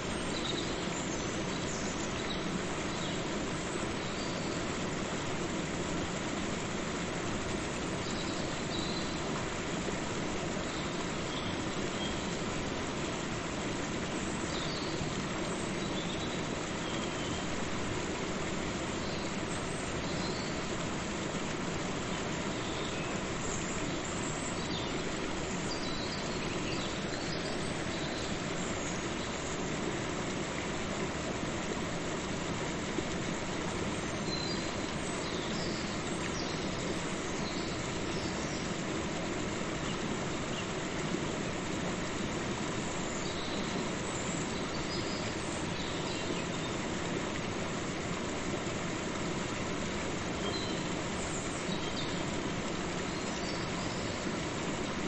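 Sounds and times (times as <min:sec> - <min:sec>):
waterfall and river rushing: 0:00.0 - 0:55.0.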